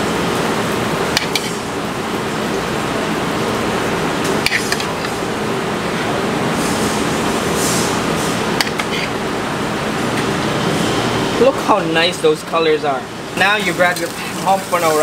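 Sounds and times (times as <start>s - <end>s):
kitchen ventilation fan: 0.0s - 15.0s.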